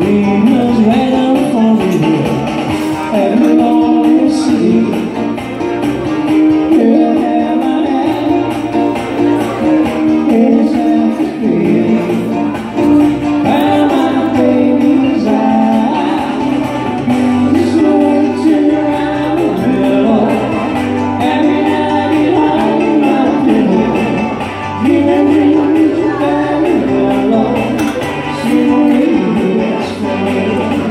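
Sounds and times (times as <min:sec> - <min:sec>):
song with singing and instruments: 0:00.0 - 0:30.9.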